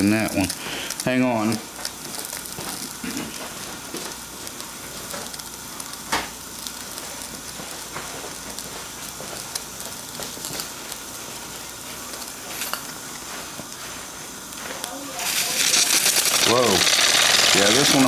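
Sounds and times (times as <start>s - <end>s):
boiler sizzling hiss: 0.0s - 18.0s.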